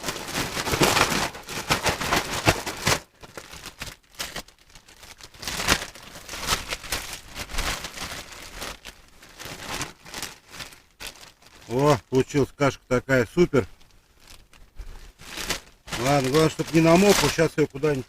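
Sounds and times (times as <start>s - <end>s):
dry bait rustling by hand: 0.0s - 12.2s, 13.3s - 18.0s.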